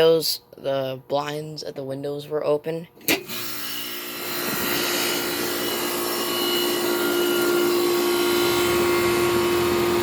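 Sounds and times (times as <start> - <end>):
air conditioner compressor humming: 0.0 - 10.0.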